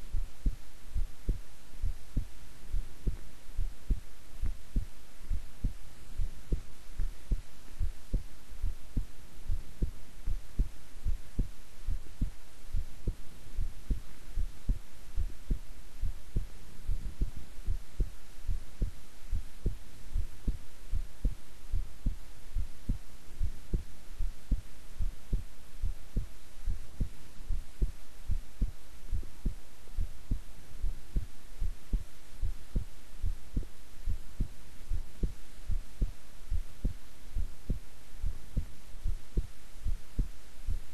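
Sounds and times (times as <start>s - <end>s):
faint hiss: 0.0s - 40.9s
heartbeat thumps: 0.0s - 40.9s.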